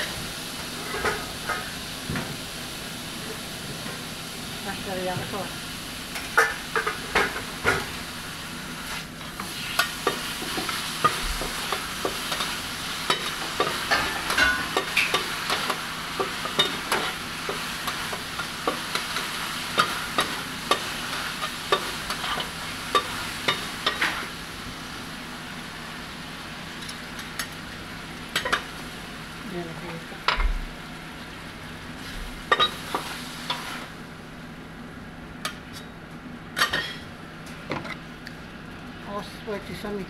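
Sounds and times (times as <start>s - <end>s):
beef sizzling on griddle: 0.0s - 29.7s, 31.2s - 34.6s.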